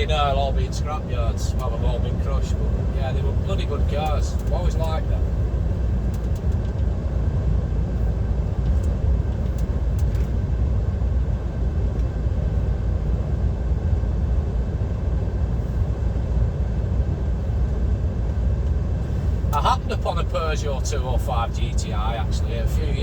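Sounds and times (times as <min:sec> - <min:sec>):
road and tyre noise: 0:00.0 - 0:23.0
truck diesel engine droning: 0:00.0 - 0:23.0.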